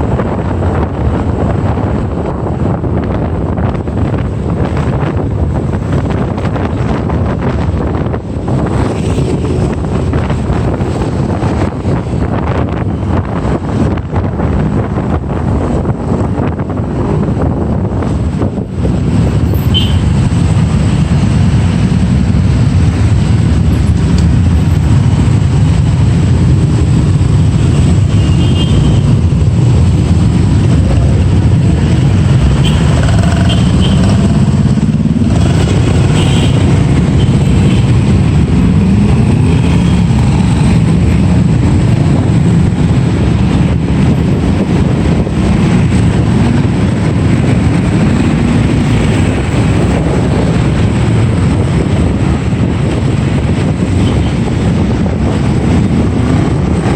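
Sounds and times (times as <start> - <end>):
loud rush of low noise: 0.0 - 56.9.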